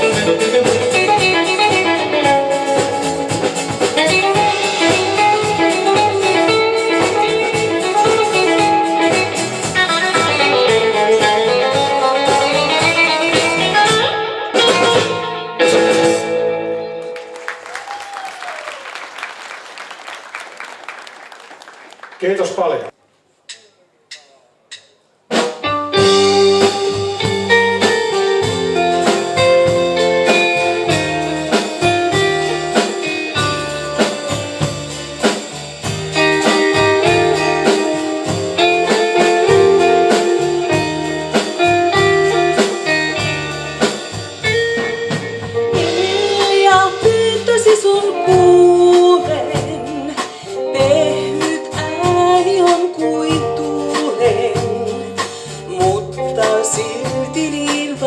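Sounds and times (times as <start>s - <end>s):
acoustic guitar: 0.0s - 17.5s, 25.8s - 58.0s
twangy electric guitars: 0.0s - 17.5s, 25.6s - 58.0s
bass guitar: 0.0s - 18.6s, 25.6s - 58.0s
drum kit: 0.0s - 22.7s, 23.4s - 58.0s.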